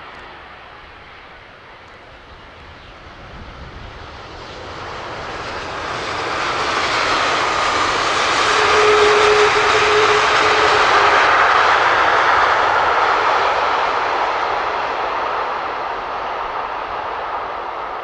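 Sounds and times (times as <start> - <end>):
jet engine rushing noise: 2.6 - 18.0.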